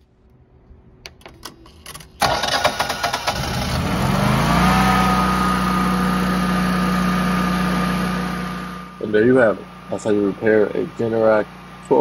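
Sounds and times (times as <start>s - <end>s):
generator engine starting and running: 1.2s - 12.0s.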